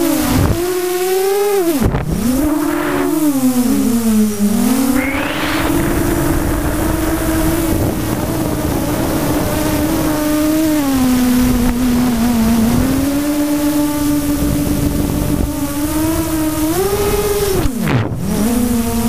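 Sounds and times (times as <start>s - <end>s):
electric motor and propeller whine: 0.0s - 19.0s
wind rush on microphone: 0.0s - 19.0s.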